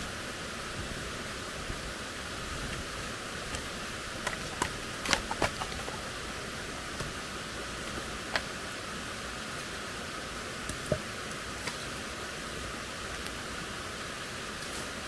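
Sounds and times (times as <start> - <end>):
forest stream rushing: 0.0 - 15.0.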